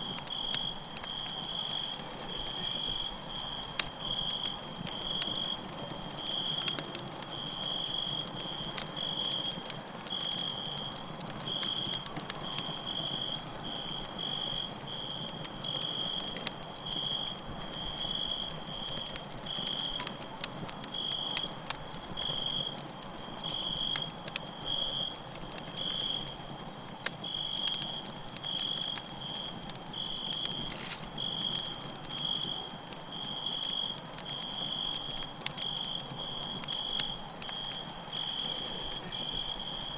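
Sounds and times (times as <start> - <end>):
crickets chirping: 0.0 - 20.0, 20.9 - 39.9
campfire crackling and popping: 0.0 - 39.9.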